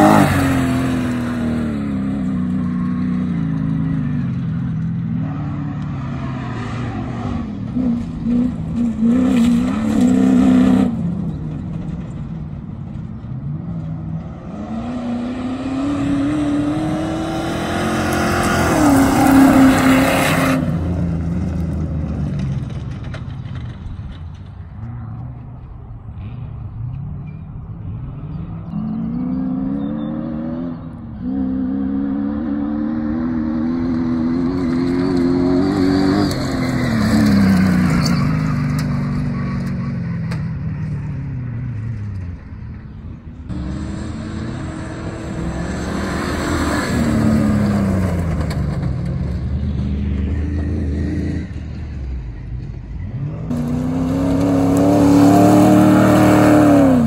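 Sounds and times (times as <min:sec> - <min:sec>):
race vehicle engines revving: 0:00.0 - 0:57.0.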